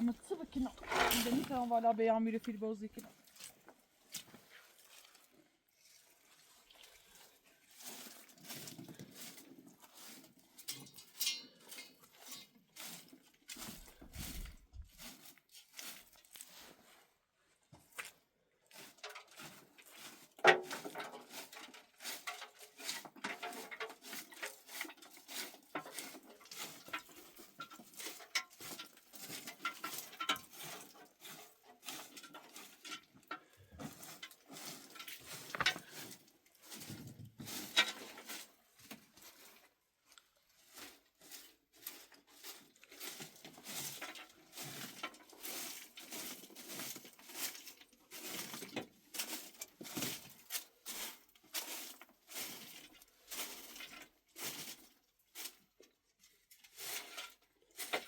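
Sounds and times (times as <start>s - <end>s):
objects being handled: 0.0s - 5.3s, 5.9s - 17.0s, 18.8s - 55.6s.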